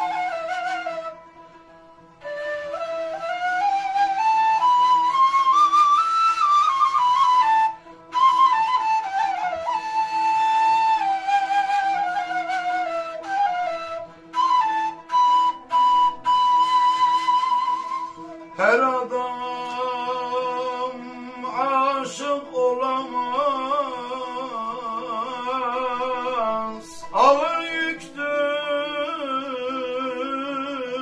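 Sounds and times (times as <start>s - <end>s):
end-blown flute melody: 0.0s - 31.0s.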